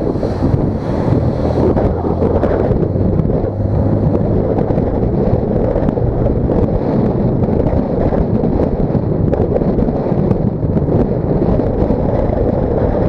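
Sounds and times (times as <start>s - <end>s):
road and drivetrain noise: 0.0s - 13.0s
wind buffeting microphone: 0.0s - 13.0s.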